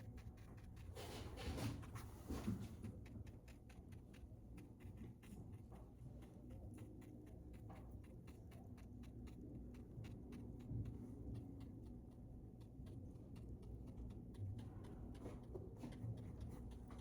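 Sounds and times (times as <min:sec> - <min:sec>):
low steady hum: 0:00.0 - 0:17.0
small clicks and taps: 0:01.5 - 0:17.0.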